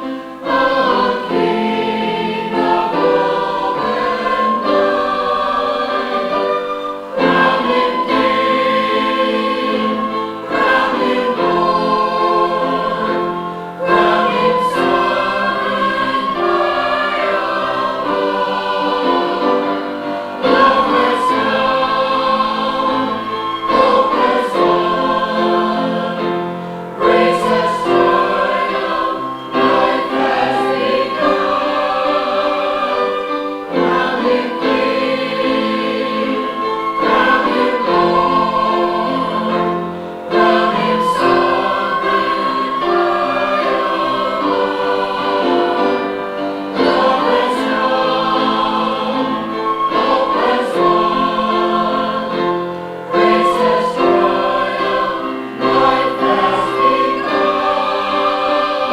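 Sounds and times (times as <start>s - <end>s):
church choir singing: 0.0s - 58.9s.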